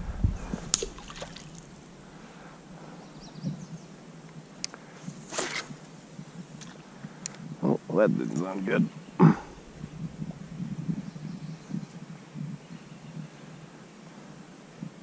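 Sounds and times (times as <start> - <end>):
quiet river ambience: 0.0 - 15.0.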